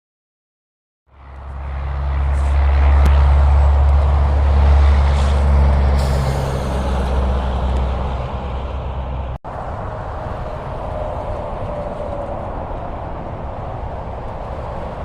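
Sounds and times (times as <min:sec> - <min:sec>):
diesel truck passing: 0:01.1 - 0:15.0.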